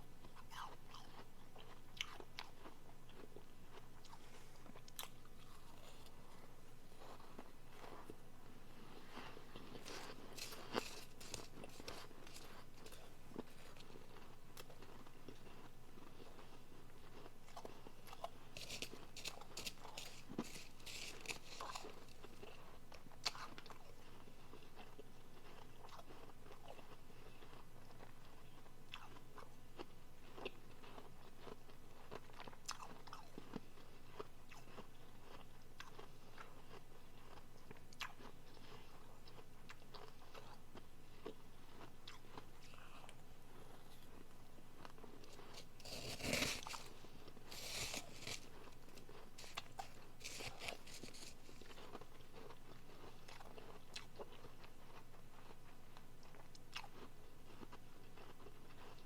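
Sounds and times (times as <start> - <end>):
chewing crunchy ice: 0.2 - 59.0.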